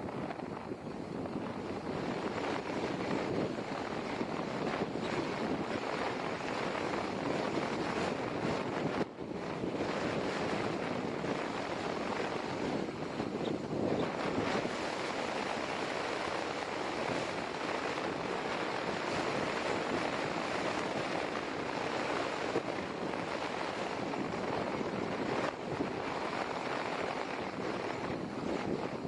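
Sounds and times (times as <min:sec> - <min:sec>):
surf: 0:00.0 - 0:29.0
wind buffeting microphone: 0:00.0 - 0:29.0.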